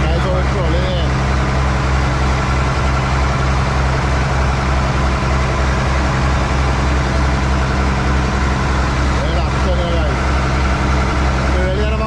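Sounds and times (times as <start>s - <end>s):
boat engine running: 0.0s - 12.0s
water churning: 0.1s - 12.0s.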